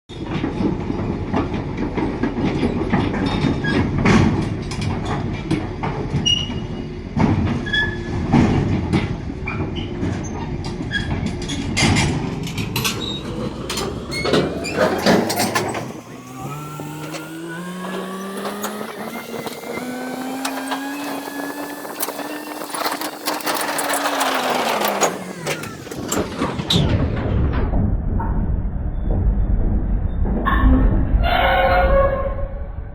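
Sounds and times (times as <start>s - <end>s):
metal clanks and knocks: 0.1s - 27.6s
engine rumble: 0.1s - 31.2s.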